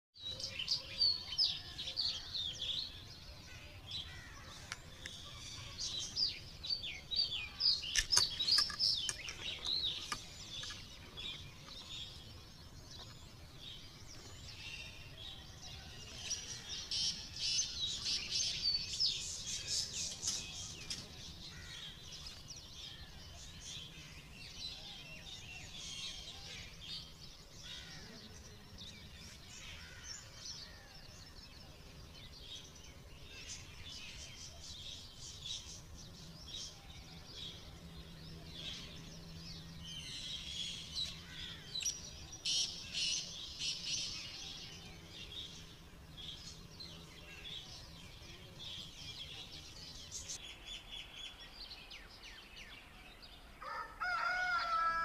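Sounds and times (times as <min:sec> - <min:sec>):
small birds chirping: 0:00.2 - 0:54.9.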